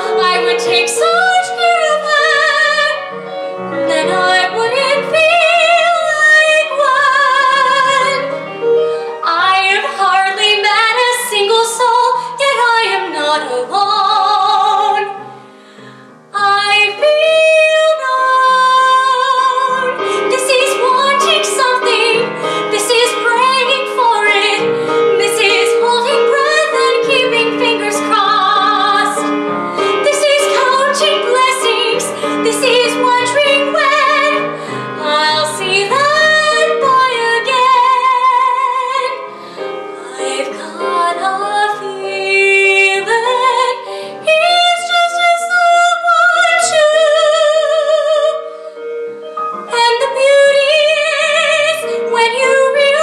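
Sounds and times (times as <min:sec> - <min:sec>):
woman singing with vibrato: 0:00.0 - 0:15.2, 0:16.3 - 0:48.5, 0:49.6 - 0:53.0.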